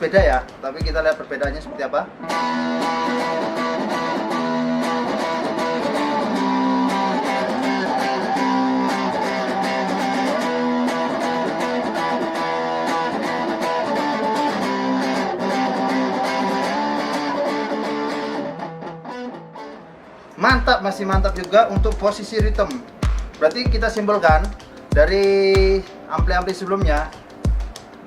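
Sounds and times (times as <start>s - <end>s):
distorted electric guitar: 0.0s - 27.8s.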